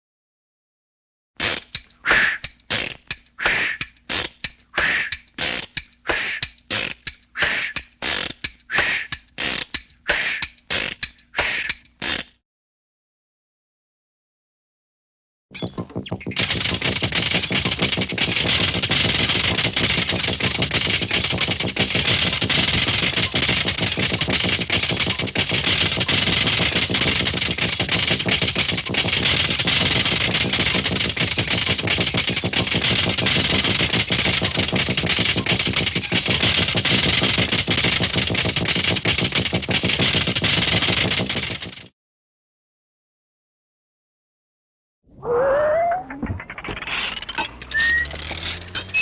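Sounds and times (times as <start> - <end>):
loud rapid rattling: 1.4 - 12.2, 16.2 - 41.9, 46.2 - 49.0.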